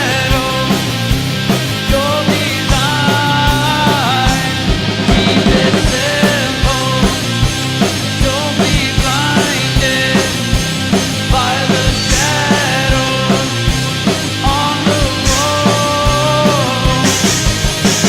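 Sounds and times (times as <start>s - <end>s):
bending lead guitar line: 0.0s - 18.0s
rock band playing live: 0.0s - 18.0s.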